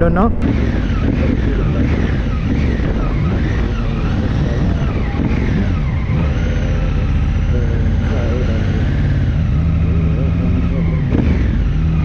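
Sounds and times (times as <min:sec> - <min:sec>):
motorcycle engine revving: 0:00.0 - 0:12.0
wind noise on microphone: 0:00.0 - 0:12.0.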